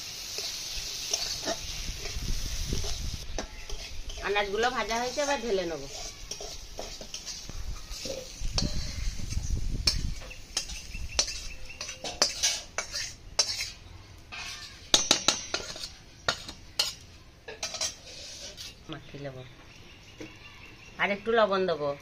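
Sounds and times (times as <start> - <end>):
spatula scraping a wok: 0.0 - 18.9.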